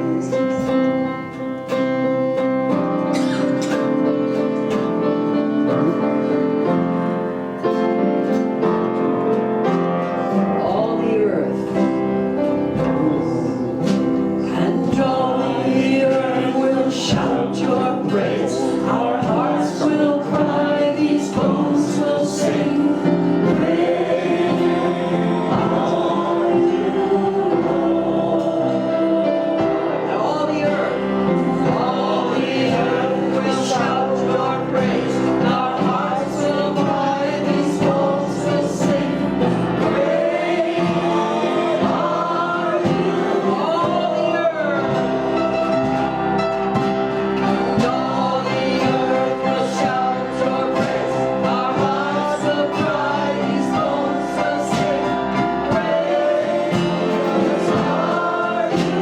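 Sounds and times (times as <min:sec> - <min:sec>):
group singing praise song: 0:00.0 - 0:59.0
musical accompaniment: 0:00.0 - 0:59.0.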